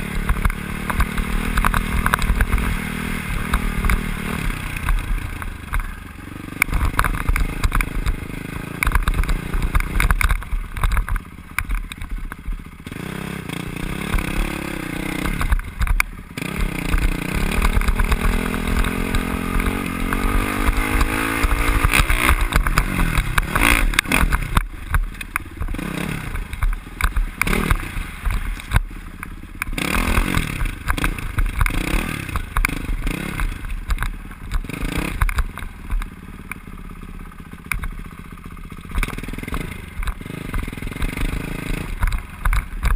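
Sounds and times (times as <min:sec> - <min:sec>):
dirt bike engine revving: 0:00.0 - 0:36.0, 0:37.0 - 0:42.9.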